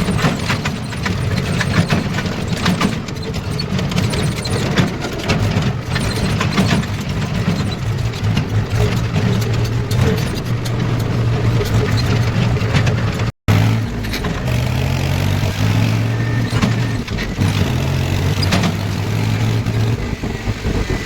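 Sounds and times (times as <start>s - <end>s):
metallic clanks and rattles: 0.0s - 21.0s
tractor engine running: 0.0s - 21.0s.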